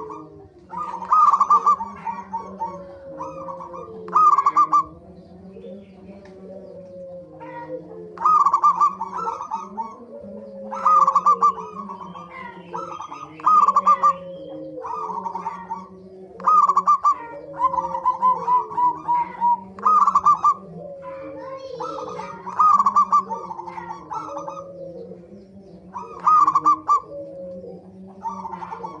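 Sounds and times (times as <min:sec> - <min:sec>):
doves calling staccato notes: 0:00.0 - 0:29.0
low continuous cooing: 0:00.0 - 0:29.0.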